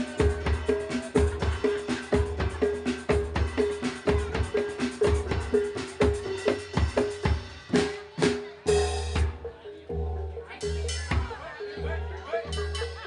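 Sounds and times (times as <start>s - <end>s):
ensemble drums beating: 0.0s - 13.0s.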